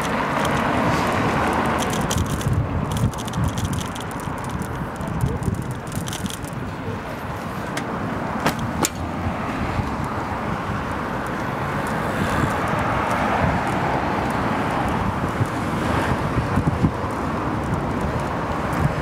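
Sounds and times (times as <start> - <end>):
wind on microphone: 0.0 - 7.4, 9.0 - 19.0
tyre and road noise: 0.0 - 19.0.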